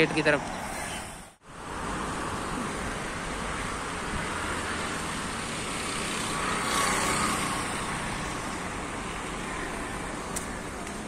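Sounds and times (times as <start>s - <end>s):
road traffic hiss: 0.0s - 11.0s.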